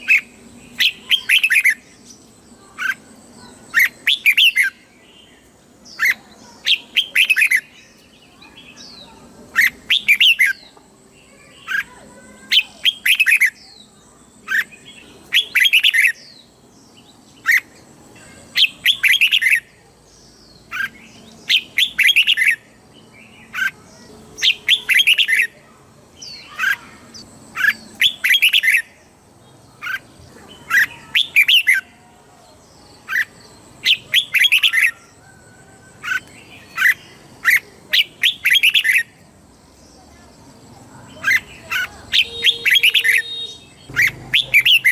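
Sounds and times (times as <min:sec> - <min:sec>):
bulbul singing warbled phrases: 0:00.0 - 0:44.9.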